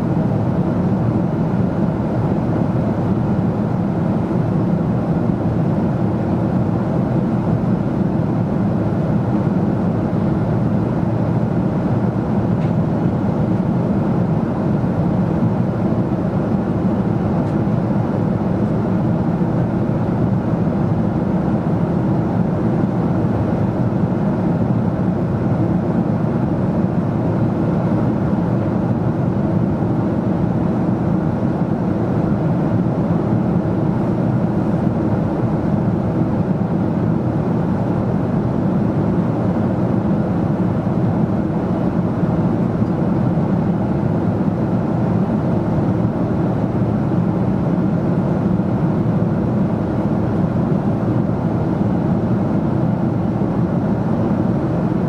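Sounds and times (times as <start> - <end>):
aircraft cabin engine roar: 0.0 - 55.0.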